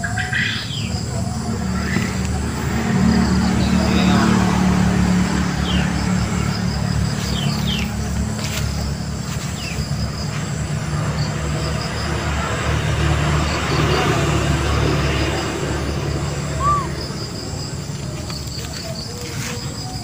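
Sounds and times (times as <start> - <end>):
low engine-like drone: 0.0 - 20.0.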